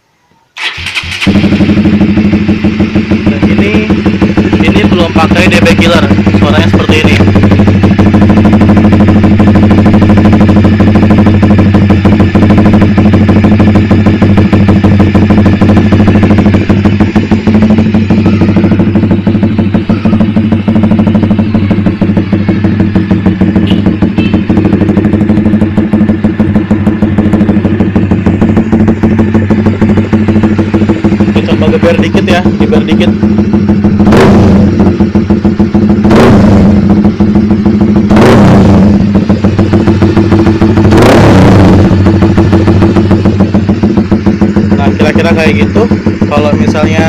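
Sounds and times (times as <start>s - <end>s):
motorcycle idling loudly: 0.6s - 47.0s.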